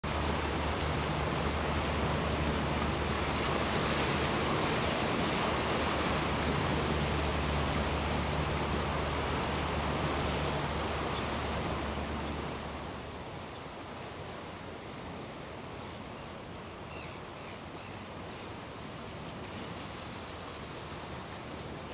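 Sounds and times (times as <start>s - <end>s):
surf and wind: 0.0s - 21.9s.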